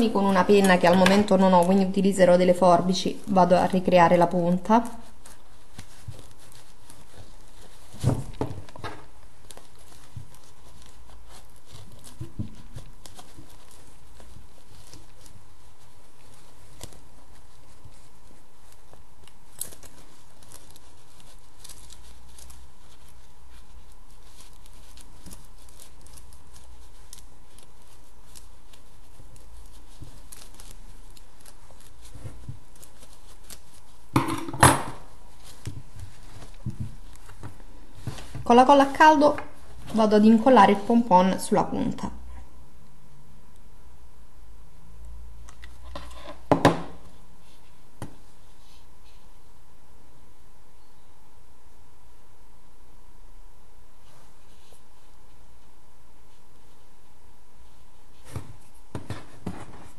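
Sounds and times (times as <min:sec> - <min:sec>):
felt rustling and scraping: 0:00.0 - 0:42.5, 0:45.5 - 0:49.7, 0:53.8 - 0:59.9
background hiss: 0:00.0 - 0:59.9.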